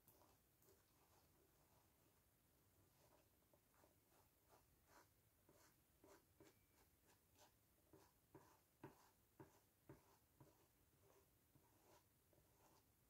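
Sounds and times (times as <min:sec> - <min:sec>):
sponge dabbing: 0:00.0 - 0:13.0.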